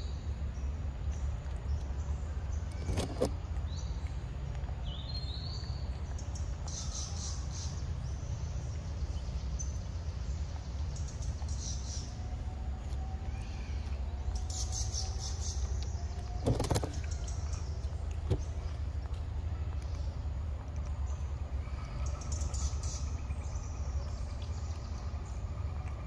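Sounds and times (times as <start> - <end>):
birds chirping: 0.0 - 26.0
steady low rumble: 0.0 - 26.0.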